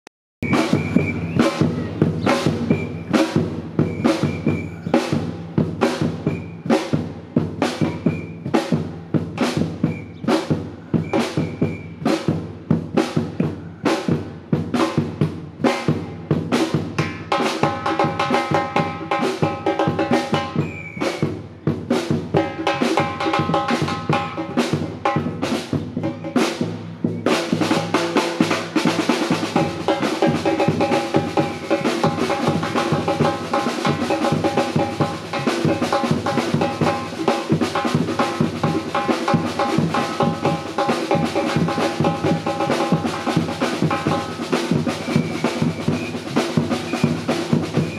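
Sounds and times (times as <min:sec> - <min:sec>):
pitched percussion tones: 0:00.4 - 0:14.2, 0:14.8 - 0:47.9
percussion band drumming: 0:00.4 - 0:47.9.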